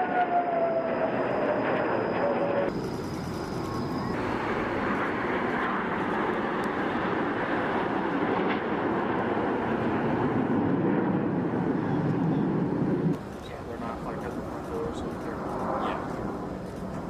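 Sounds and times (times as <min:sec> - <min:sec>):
aircraft engine rushing: 0:00.0 - 0:17.0.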